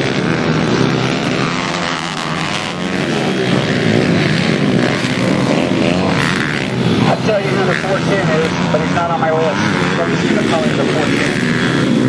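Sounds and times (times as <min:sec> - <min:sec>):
small motorbike engines revving: 0:00.0 - 0:12.0.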